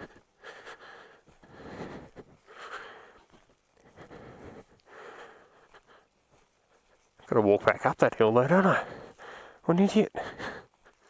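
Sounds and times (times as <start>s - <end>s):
person breathing hard: 0.0s - 7.2s, 8.6s - 11.0s.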